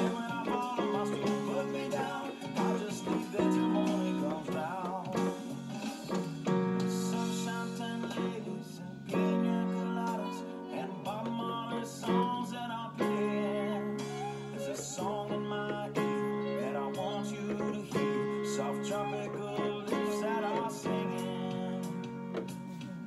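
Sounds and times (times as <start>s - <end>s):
digital keyboard chords: 0.0s - 23.0s
wavering keyboard melody: 0.0s - 23.0s.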